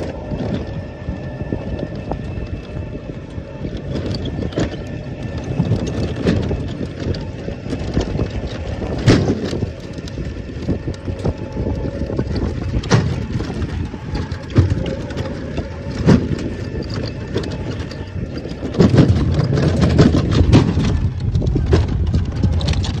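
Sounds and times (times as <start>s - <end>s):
knocks and rattles: 0.0s - 23.0s
vehicle rumble on dirt track: 0.0s - 23.0s.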